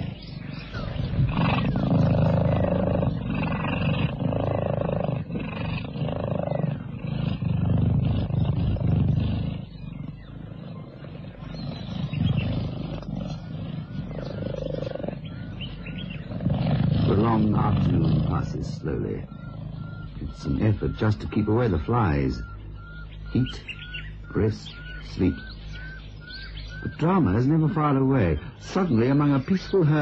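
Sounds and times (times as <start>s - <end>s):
cheetahs purring: 0.0s - 30.0s.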